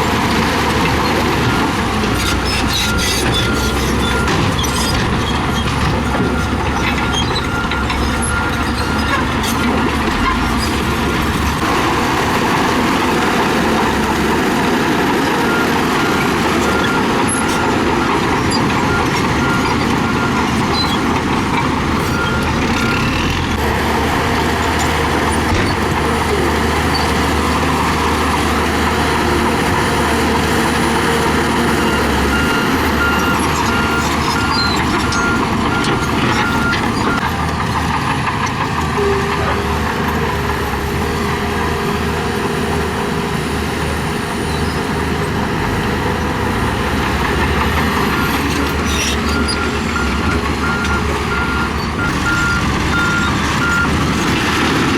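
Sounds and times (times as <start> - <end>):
diesel engines of heavy machinery: 0.0 - 54.9.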